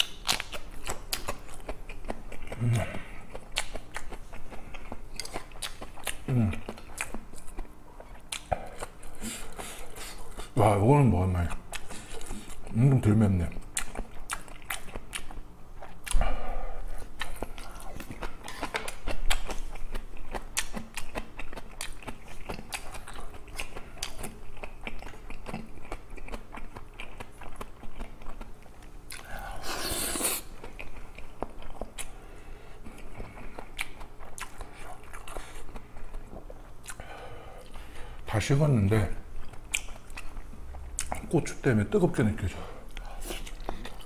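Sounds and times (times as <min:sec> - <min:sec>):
wet chewing and mouth clicks: 0:00.0 - 0:10.6, 0:11.4 - 0:12.8, 0:13.5 - 0:16.2, 0:16.8 - 0:32.2, 0:32.8 - 0:37.9, 0:39.3 - 0:41.6, 0:42.9 - 0:44.0.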